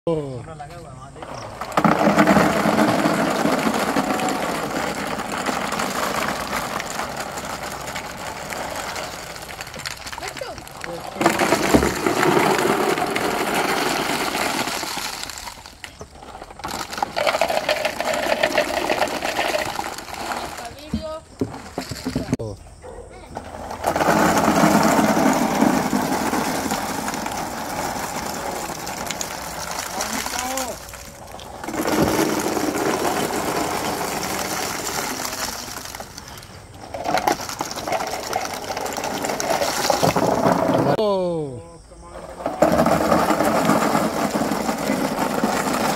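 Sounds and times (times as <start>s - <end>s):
plastic balls clattering: 1.2s - 22.5s, 23.3s - 41.0s, 42.2s - 45.9s.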